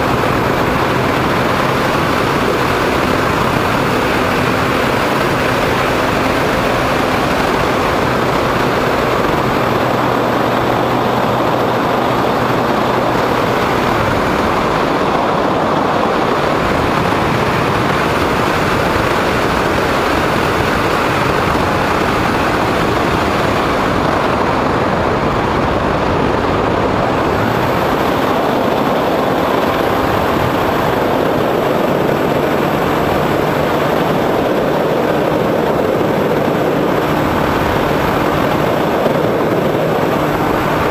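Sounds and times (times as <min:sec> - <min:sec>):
plane motor and propeller drone: 0:00.0 - 0:40.9
rush of air: 0:00.0 - 0:40.9.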